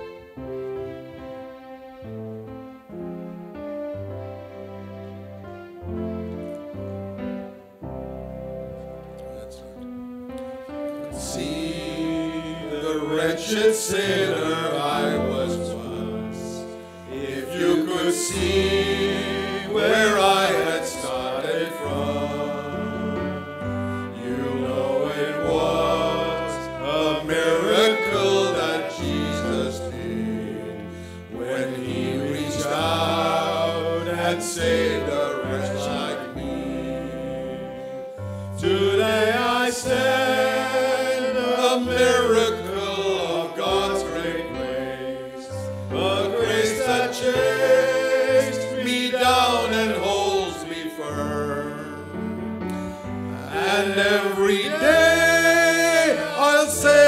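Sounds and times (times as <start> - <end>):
men singing gospel song: 11.2 - 57.0.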